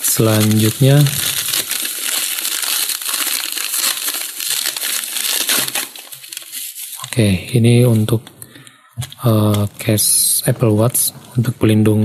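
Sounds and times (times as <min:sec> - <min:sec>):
bubble wrap crinkling: 0:00.0 - 0:08.4, 0:09.0 - 0:11.5.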